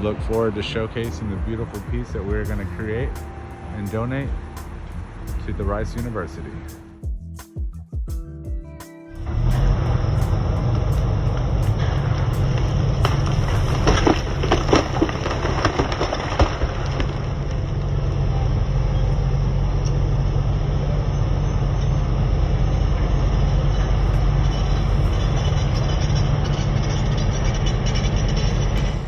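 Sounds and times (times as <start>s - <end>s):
heavy engine rumbling: 0.0s - 29.0s.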